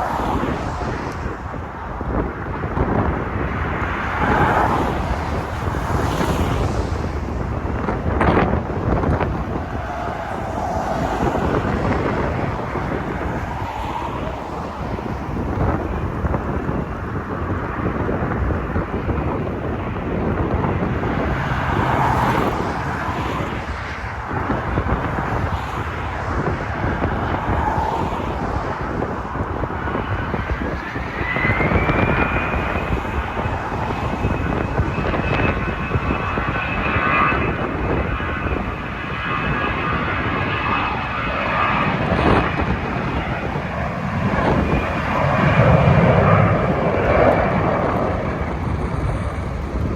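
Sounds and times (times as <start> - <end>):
jet aircraft rumble: 0.0 - 49.9
jet engine whine: 0.0 - 49.9
wind buffeting microphone: 0.0 - 49.9.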